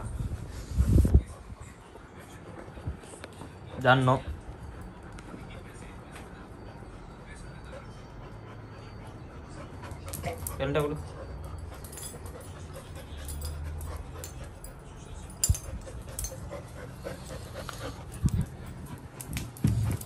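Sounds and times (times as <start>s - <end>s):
puppy panting: 0.0s - 20.0s.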